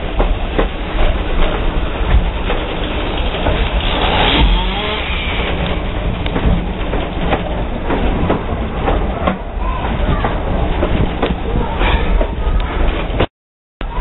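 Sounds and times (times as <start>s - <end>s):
train rumble and rattle: 0.0s - 14.0s
wheels clicking over rail joints: 0.0s - 14.0s.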